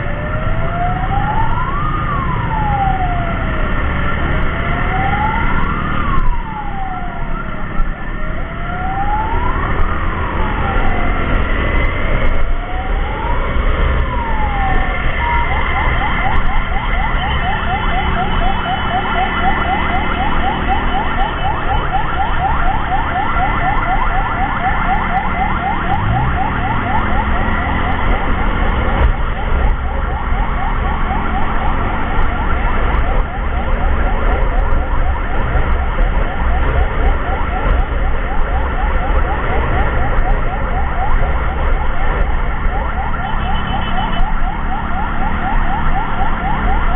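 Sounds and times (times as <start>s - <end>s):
emergency siren yelp and wail: 0.0s - 46.9s
steady siren tones: 0.0s - 46.9s
vehicle engine and road rumble: 0.0s - 46.9s.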